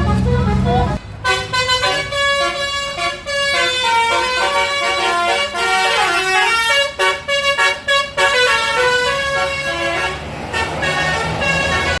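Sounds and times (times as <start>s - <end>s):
musical bus air horn: 0.0s - 12.0s.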